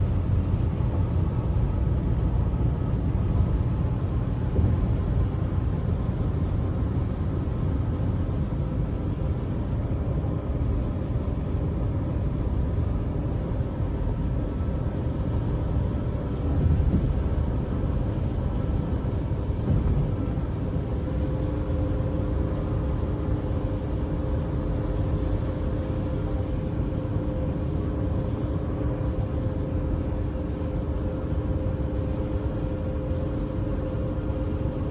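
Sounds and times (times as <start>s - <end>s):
moving vehicle rumble: 0.0s - 34.9s.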